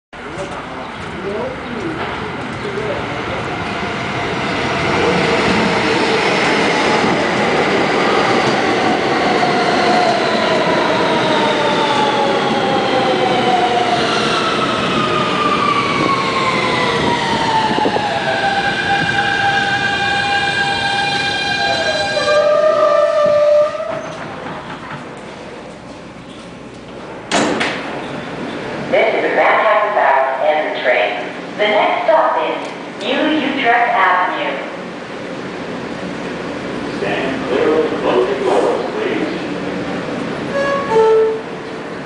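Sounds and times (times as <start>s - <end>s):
subway train wheel and rail noise: 0.2s - 42.0s.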